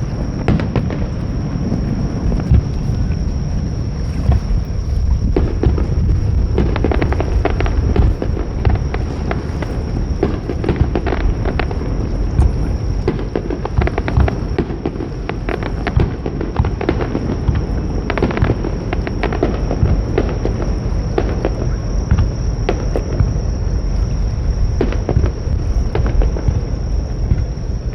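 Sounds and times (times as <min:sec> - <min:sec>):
fireworks crackling: 0:00.0 - 0:27.9
low rumble of bursts: 0:00.0 - 0:27.9.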